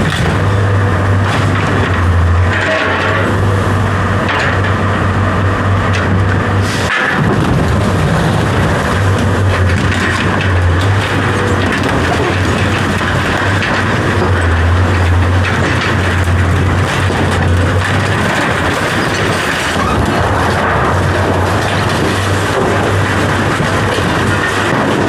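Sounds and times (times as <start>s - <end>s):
mechanical rumble and hiss: 0.0s - 25.0s.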